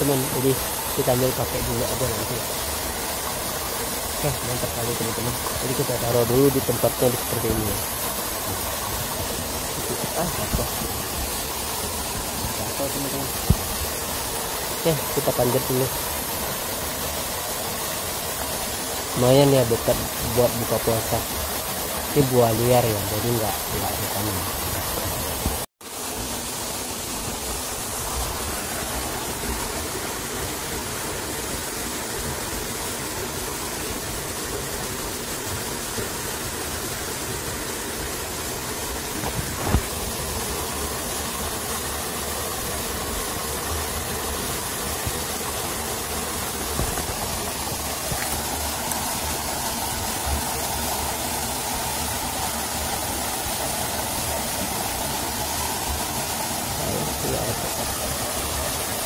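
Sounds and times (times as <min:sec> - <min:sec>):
waterfall pouring into pool: 0:00.0 - 0:59.0.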